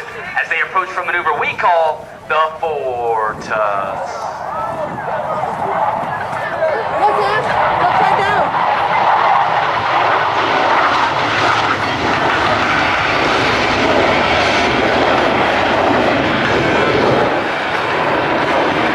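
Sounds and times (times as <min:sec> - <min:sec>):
propeller plane engines droning: 0:00.0 - 0:18.9.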